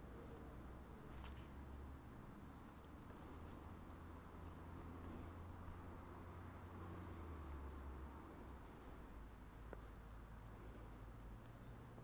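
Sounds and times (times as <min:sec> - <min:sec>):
distant small bird chirping: 0:00.0 - 0:12.0
faint low rumble: 0:00.0 - 0:12.0.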